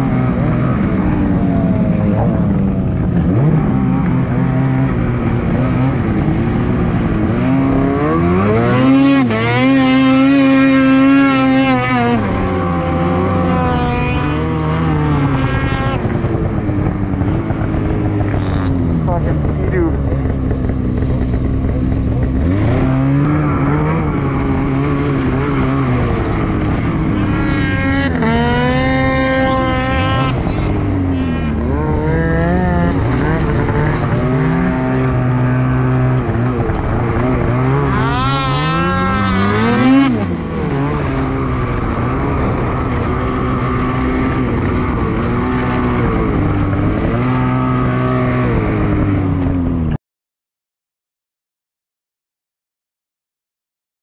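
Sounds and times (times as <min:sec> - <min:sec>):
snowmobile engine revving: 0:00.0 - 0:49.9.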